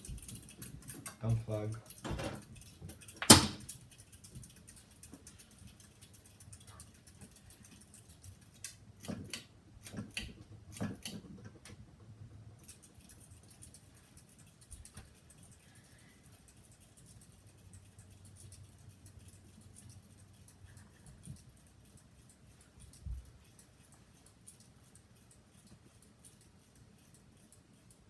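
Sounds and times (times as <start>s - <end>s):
ceiling fan ticking while coasting: 0.0s - 28.0s.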